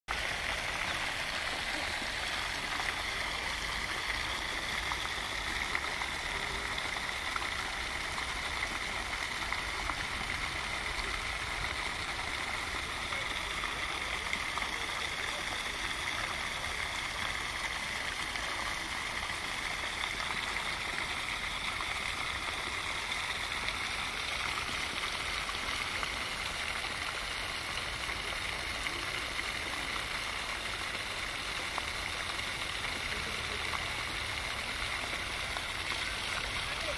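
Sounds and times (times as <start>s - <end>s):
running water rushing: 0.1s - 36.9s.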